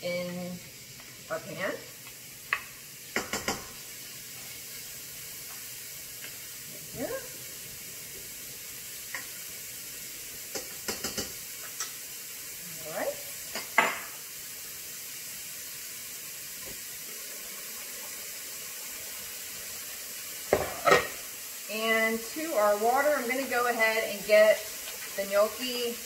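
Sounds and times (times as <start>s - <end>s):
onions sizzling in a pan: 0.0s - 26.0s.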